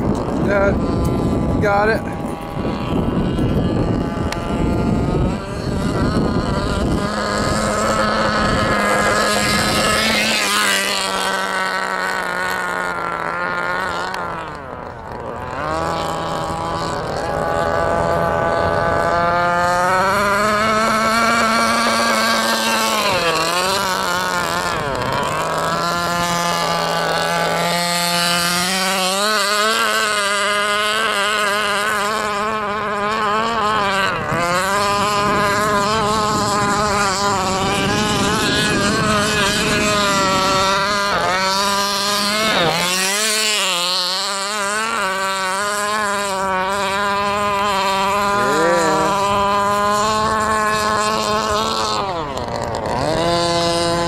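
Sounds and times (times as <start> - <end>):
small two-stroke engine revving: 0.0 - 54.0.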